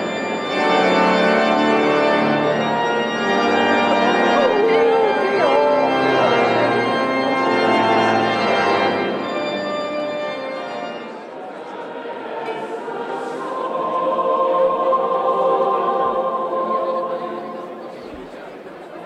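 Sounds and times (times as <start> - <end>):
pipe organ sustained chords: 0.0 - 18.5.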